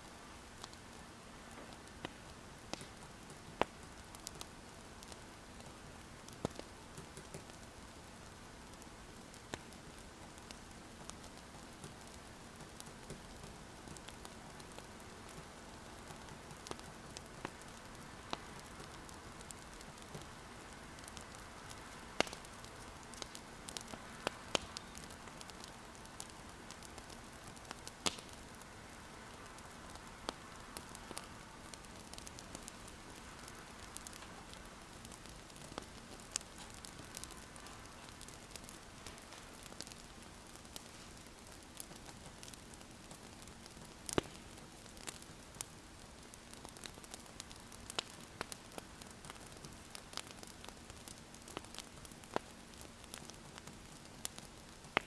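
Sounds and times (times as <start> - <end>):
soft fire hiss: 0.0 - 55.0
wood fire crackling and popping: 0.6 - 55.0.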